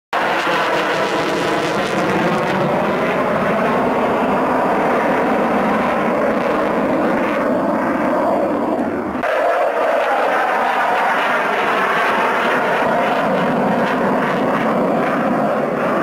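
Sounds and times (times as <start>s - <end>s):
jet engine roar: 0.1s - 16.0s.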